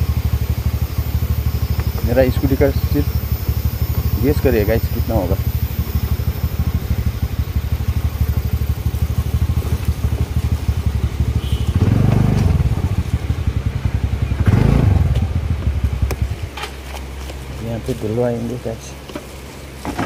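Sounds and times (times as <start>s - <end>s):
scooter engine running: 0.0s - 20.0s.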